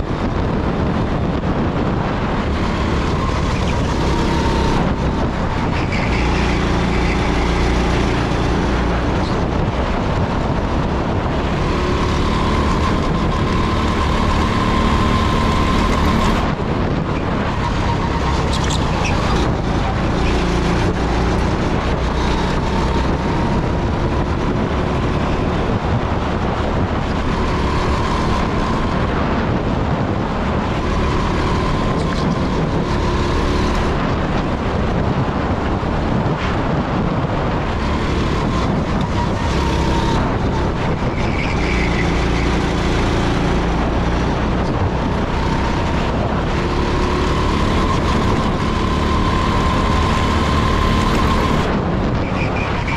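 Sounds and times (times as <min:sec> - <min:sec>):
go-kart engine revving: 0:01.3 - 0:52.9.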